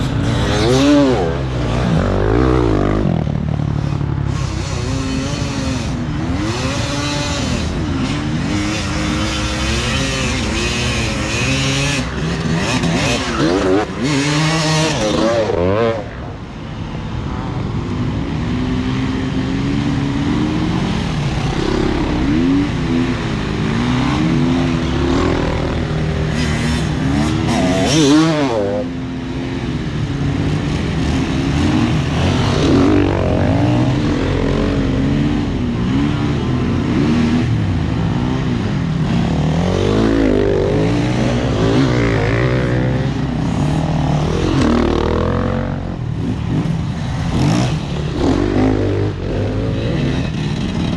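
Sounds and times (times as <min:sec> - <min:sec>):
motorcycle engine revving: 0:00.0 - 0:16.2, 0:18.6 - 0:50.9.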